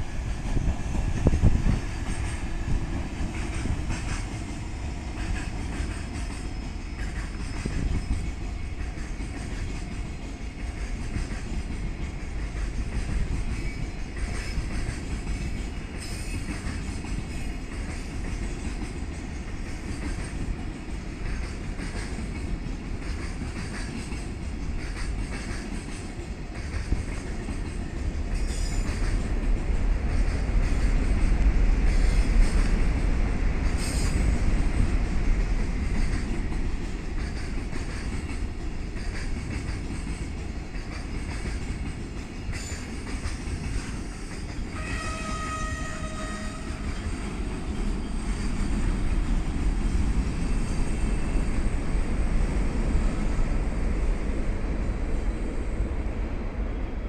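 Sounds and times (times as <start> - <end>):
train rumbling past on rails: 0.0 - 57.0.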